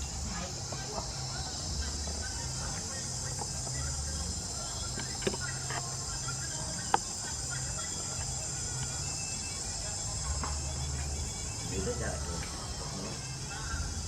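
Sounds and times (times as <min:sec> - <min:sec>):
high-pitched insect chirring: 0:00.0 - 0:14.0.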